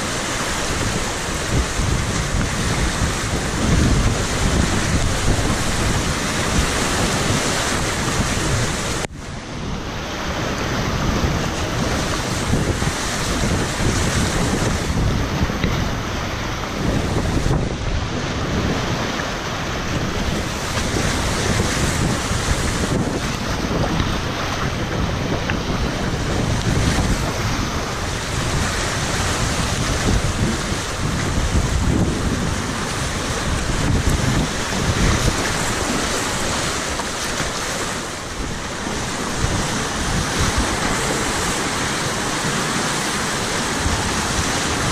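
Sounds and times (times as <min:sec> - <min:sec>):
whitewater rapids rushing: 0:00.0 - 0:44.9.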